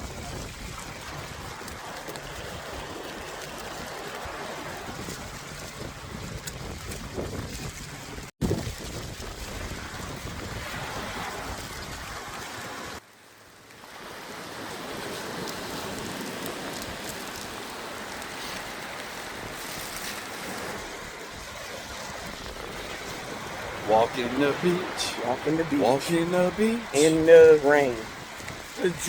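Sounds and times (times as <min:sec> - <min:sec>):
wind buffeting microphone: 0:00.0 - 0:13.0, 0:14.9 - 0:29.0
ocean surf washing on beach: 0:00.0 - 0:29.0.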